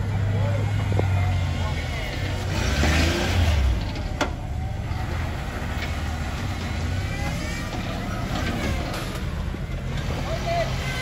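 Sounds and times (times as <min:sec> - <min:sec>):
truck engine rumbling at low revs: 0:00.0 - 0:11.0.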